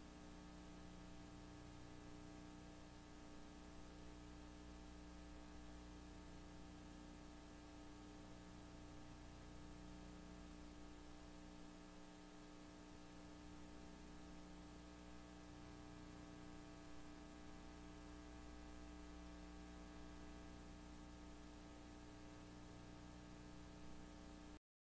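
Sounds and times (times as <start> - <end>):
electrical hum: 0.0 - 24.6.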